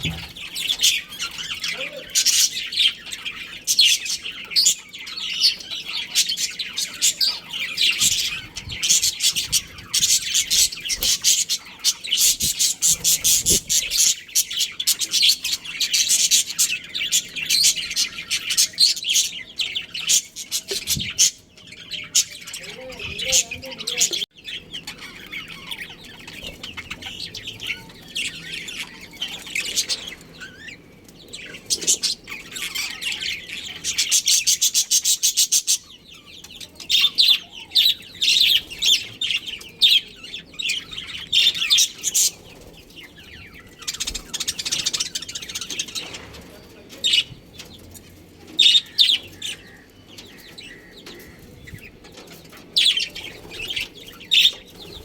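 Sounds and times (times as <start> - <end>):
budgerigars chirping: 0.0 - 47.9, 48.6 - 55.0.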